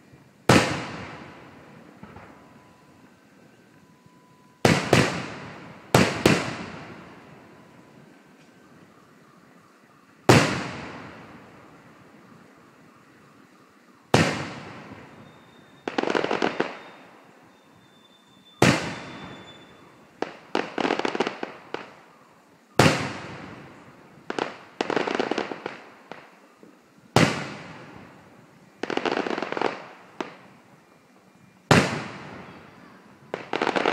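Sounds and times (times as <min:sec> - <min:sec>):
fireworks crackling: 0:00.0 - 0:33.9
fireworks booming: 0:00.4 - 0:02.9, 0:03.8 - 0:08.4, 0:10.2 - 0:12.4, 0:14.1 - 0:22.1, 0:22.8 - 0:30.6, 0:31.7 - 0:33.9.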